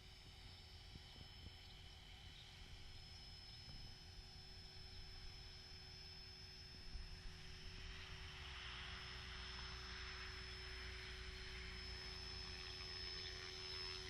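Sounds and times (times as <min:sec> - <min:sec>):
low steady tone: 0:00.0 - 0:14.0
rc helicopter high whine: 0:00.0 - 0:14.0.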